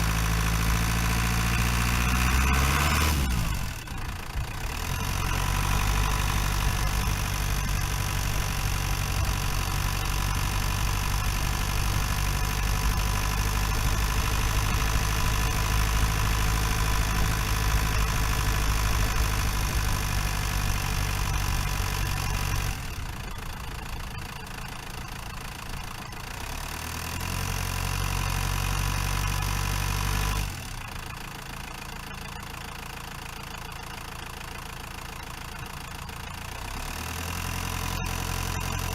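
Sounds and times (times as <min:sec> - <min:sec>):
diesel van engine droning: 0:00.0 - 0:38.9.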